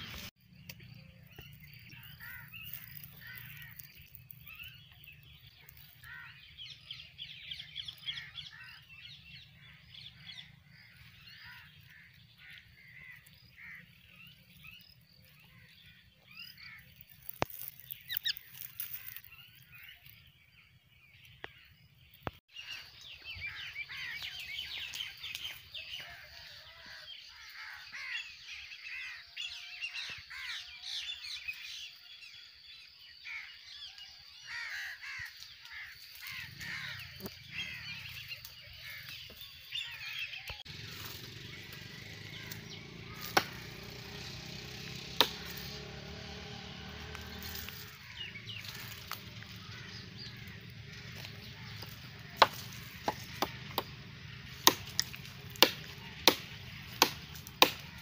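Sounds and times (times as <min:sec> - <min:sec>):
birds chattering and squawking: 0:00.0 - 0:58.0.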